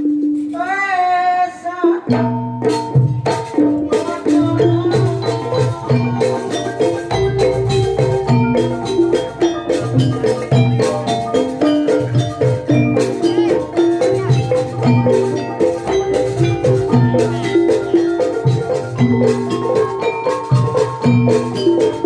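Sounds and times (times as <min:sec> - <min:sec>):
mallet metallophones melody: 0:02.1 - 0:22.0
steady drum pulse: 0:02.2 - 0:22.0.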